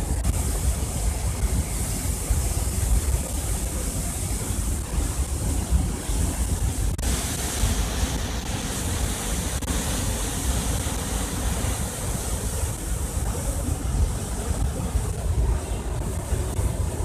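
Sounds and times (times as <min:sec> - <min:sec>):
floodwater rushing: 0:00.0 - 0:17.0
wind buffeting microphone: 0:00.0 - 0:17.0.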